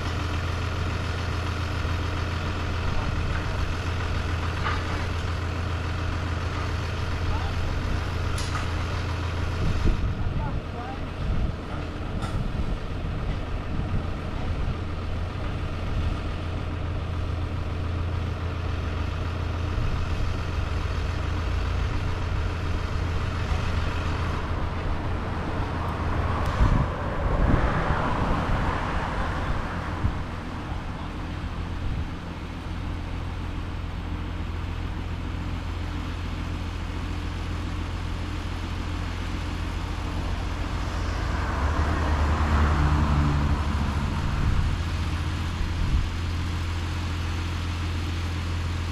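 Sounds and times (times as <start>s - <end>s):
engine running: 0.0s - 48.9s.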